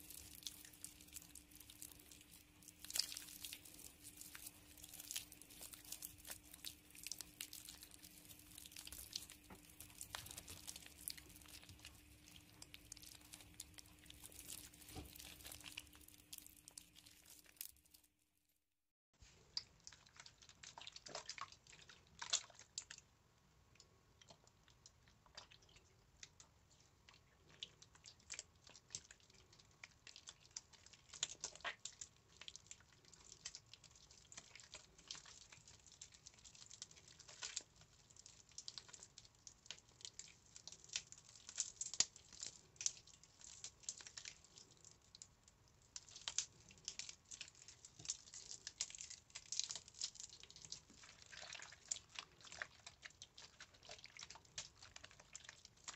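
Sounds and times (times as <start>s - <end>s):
hands squeezing wet soap: 0.0s - 18.2s, 19.3s - 55.9s.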